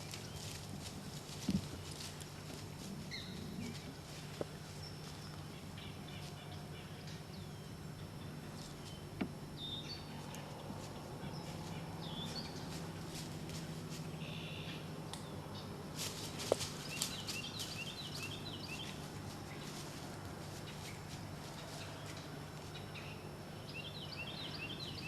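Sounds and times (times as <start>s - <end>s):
small birds chirping: 0.0s - 25.0s
steady low hum: 0.0s - 25.0s.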